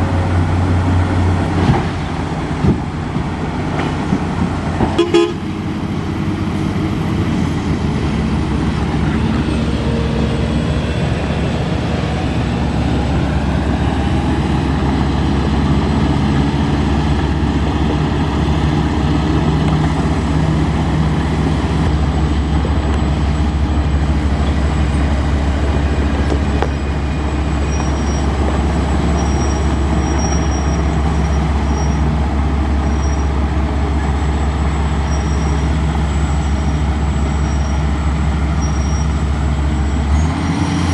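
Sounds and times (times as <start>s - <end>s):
diesel truck engine rumbling: 0.0s - 40.9s.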